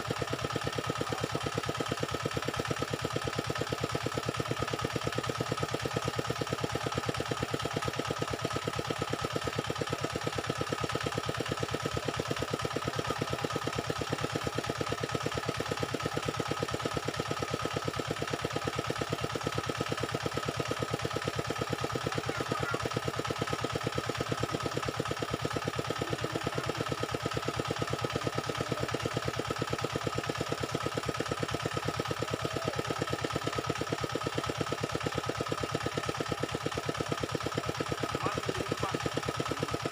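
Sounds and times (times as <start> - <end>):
engine idling with whine: 0.0 - 39.9.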